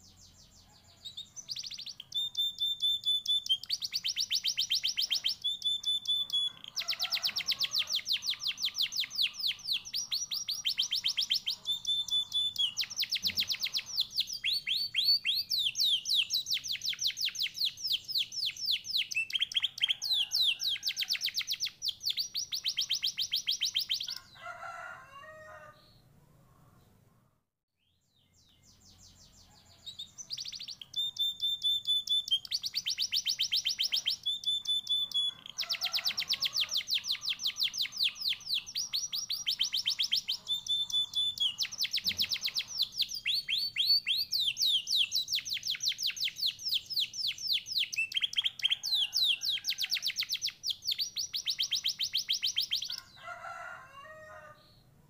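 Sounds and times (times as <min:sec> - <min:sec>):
canary singing rapid trills: 0:00.0 - 0:24.4, 0:28.4 - 0:53.7.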